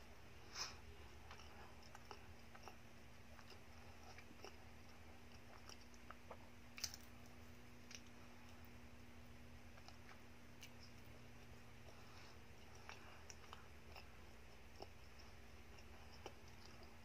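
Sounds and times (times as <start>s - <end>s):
person chewing: 0.6s - 7.2s, 9.7s - 17.0s.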